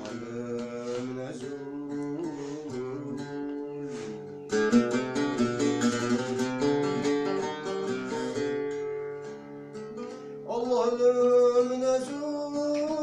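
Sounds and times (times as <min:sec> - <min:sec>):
mandole picked with a plectrum: 0:00.0 - 0:13.0.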